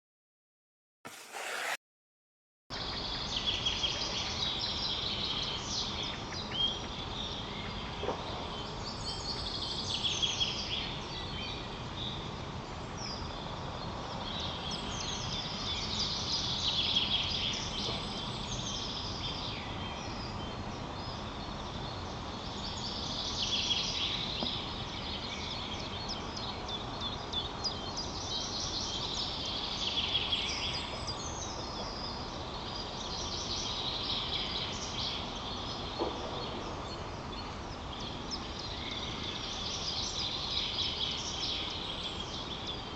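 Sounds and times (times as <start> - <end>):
outdoor background hiss: 2.8 - 42.9.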